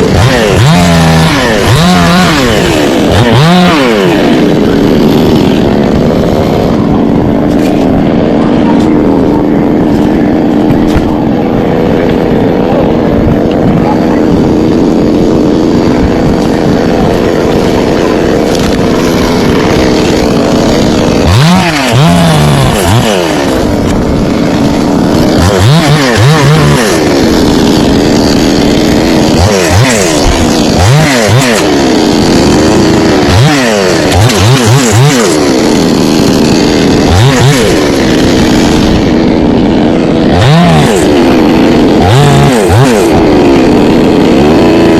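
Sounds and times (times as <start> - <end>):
chainsaw revving while cutting: 0.0 - 44.9.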